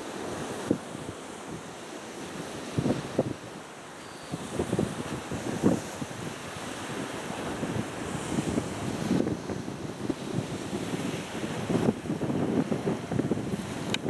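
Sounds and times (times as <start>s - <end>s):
sea waves: 0.0s - 14.0s
wind buffeting microphone: 0.1s - 14.0s.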